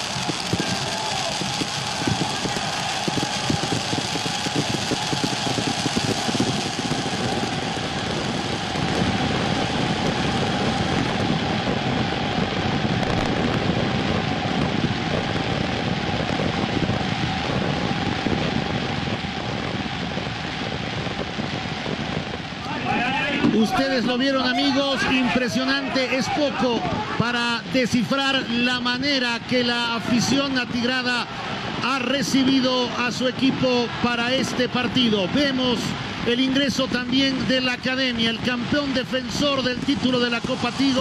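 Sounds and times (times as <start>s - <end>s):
firecrackers crackling: 0.0s - 41.0s
stadium crowd roaring: 0.0s - 41.0s.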